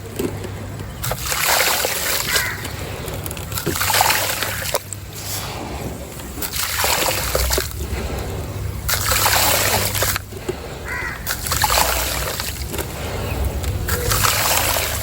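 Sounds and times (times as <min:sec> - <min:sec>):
wet mix pouring and sloshing: 0:00.9 - 0:15.0.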